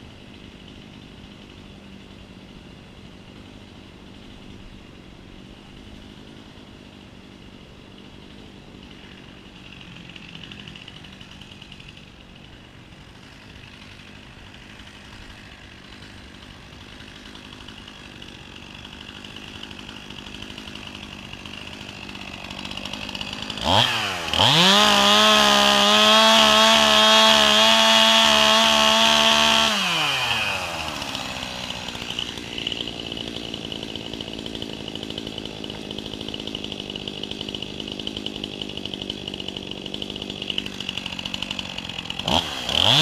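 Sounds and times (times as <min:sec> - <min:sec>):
chainsaw engine idling: 0:00.0 - 0:43.0.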